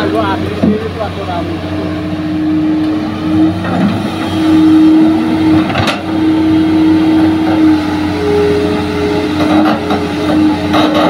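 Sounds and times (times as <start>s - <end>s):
higher whine: 0.0s - 10.7s
excavator engine and hydraulics whining: 0.0s - 11.0s.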